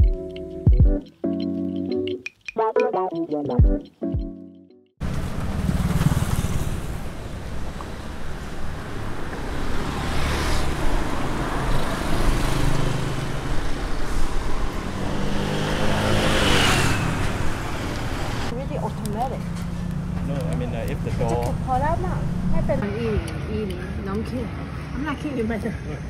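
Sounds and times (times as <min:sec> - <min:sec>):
motorbike and car engines passing: 0:05.0 - 0:26.0.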